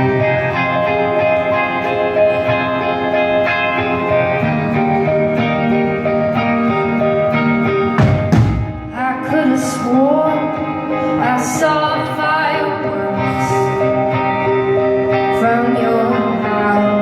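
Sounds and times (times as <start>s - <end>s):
guitar band music: 0.0s - 17.0s.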